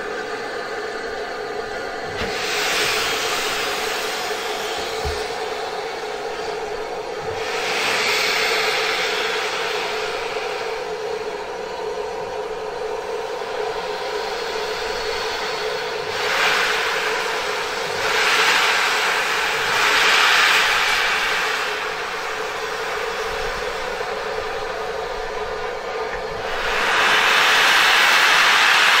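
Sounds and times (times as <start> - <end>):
constant droning note: 0.0 - 26.8
steam locomotive hissing: 0.0 - 29.0.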